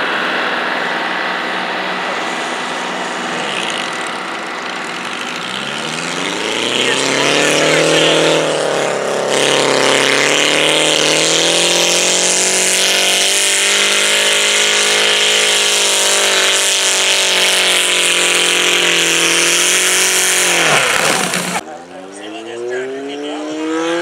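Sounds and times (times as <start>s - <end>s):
tractor engine revving under load: 0.0s - 24.0s.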